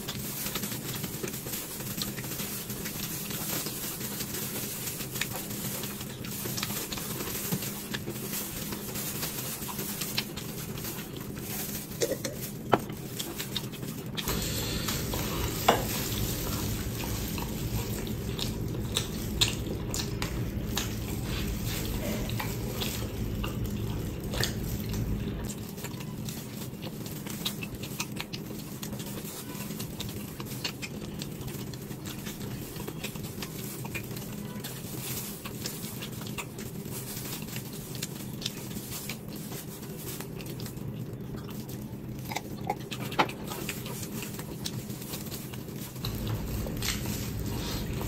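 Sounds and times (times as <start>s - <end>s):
wet chewing: 0.0s - 48.0s.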